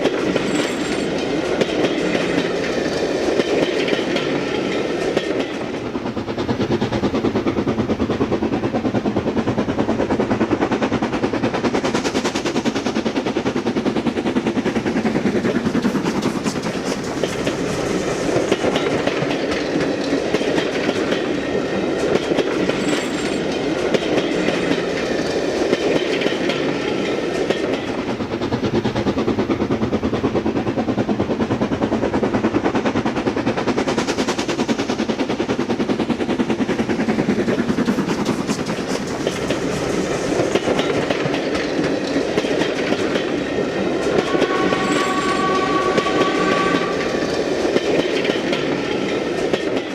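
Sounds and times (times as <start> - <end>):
model train rattling rumble: 0.0 - 49.9
wheels clicking over rail joints: 0.0 - 49.9.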